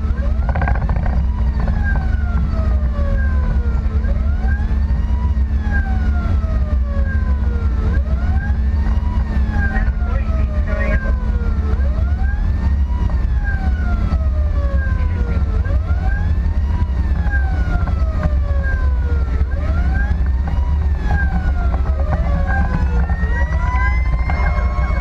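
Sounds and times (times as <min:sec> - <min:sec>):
engine and road rumble: 0:00.0 - 0:25.0
fast siren pattern: 0:00.0 - 0:25.0
siren wailing: 0:00.0 - 0:25.0.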